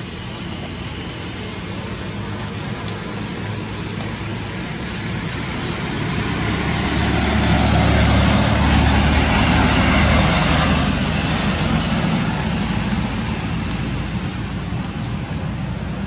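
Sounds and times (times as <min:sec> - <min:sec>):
passing vehicle engine: 0:00.0 - 0:16.0.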